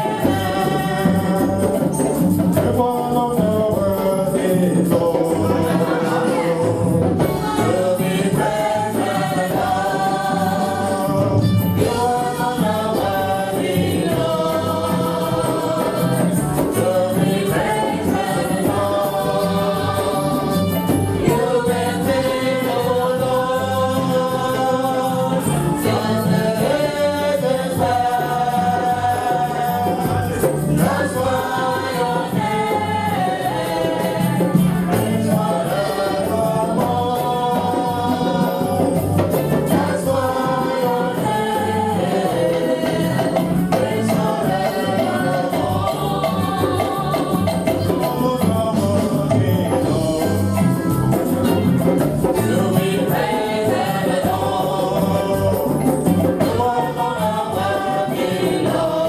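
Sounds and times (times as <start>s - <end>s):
choir singing gospel: 0.0s - 59.0s
percussion beat: 0.0s - 59.0s
tambourine: 7.2s - 59.0s.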